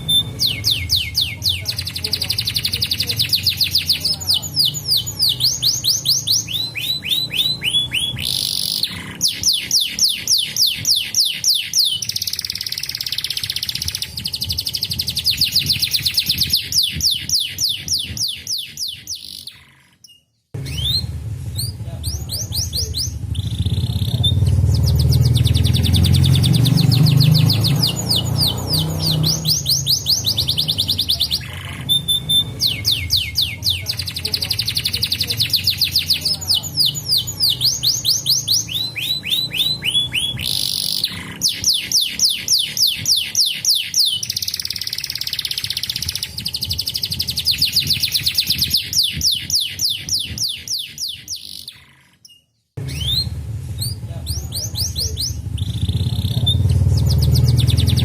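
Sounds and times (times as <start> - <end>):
canaries singing in rolling trills: 0.0 - 58.0.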